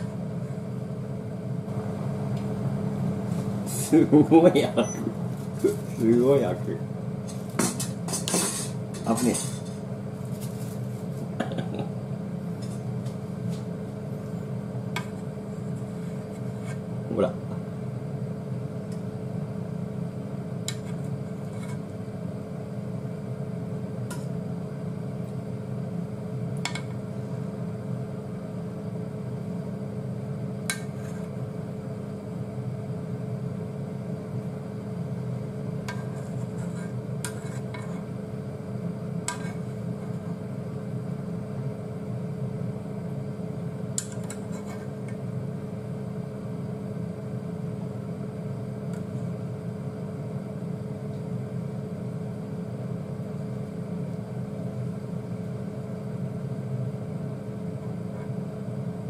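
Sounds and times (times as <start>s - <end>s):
induction hob humming: 0.0s - 59.0s.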